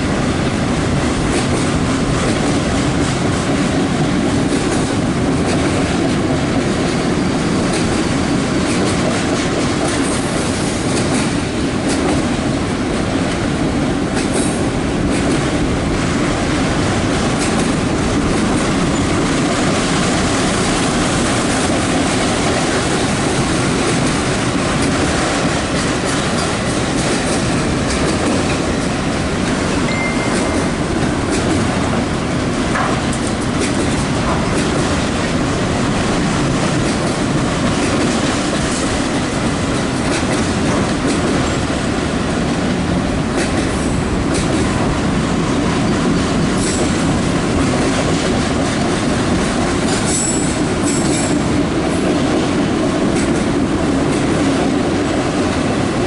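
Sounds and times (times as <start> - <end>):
rail cars clicking and clanking: 0.0 - 56.0
steel wheels rumbling on rail: 0.0 - 56.0.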